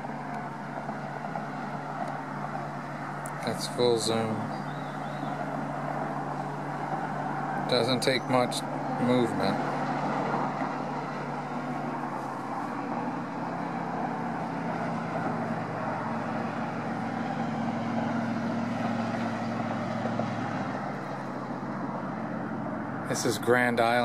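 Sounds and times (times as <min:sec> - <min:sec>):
highway traffic hum: 0:00.0 - 0:24.0.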